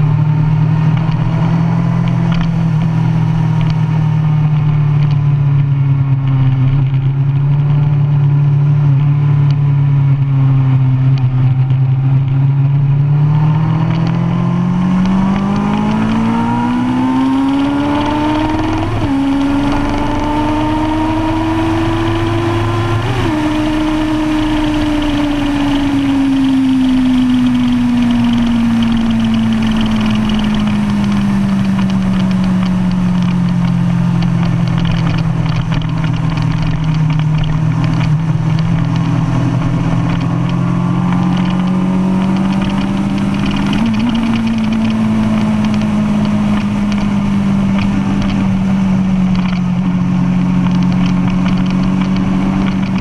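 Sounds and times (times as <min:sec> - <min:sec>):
motorcycle engine at part throttle: 0:00.0 - 0:53.0.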